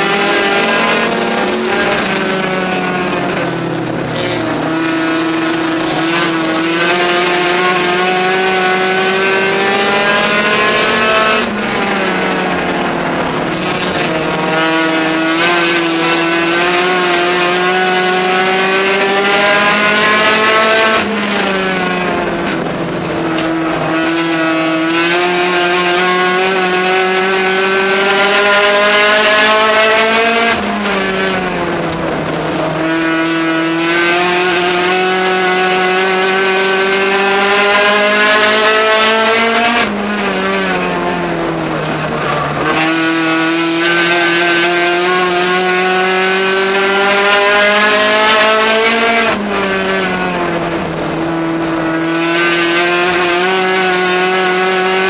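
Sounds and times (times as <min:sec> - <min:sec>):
race car engine at speed: 0:00.0 - 0:55.0.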